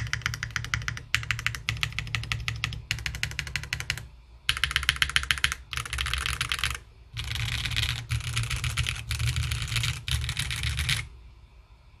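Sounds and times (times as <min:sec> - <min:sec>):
fast typing on mechanical keyboard: 0:00.0 - 0:11.1.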